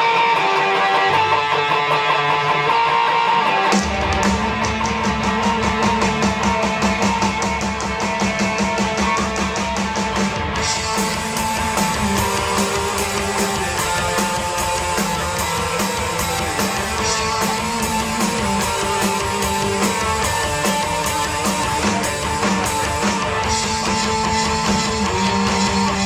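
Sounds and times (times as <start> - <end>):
bass guitar: 0.0 - 26.0
drums: 0.0 - 26.0
electric guitars: 0.0 - 26.0.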